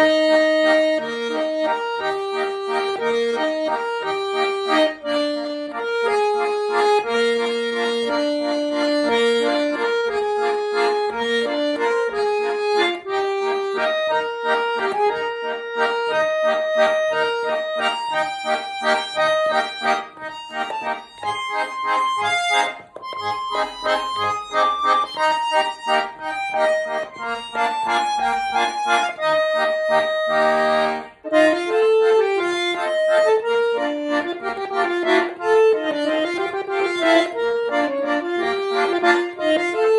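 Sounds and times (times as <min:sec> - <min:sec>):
button accordion folk melody: 0:00.0 - 0:39.9.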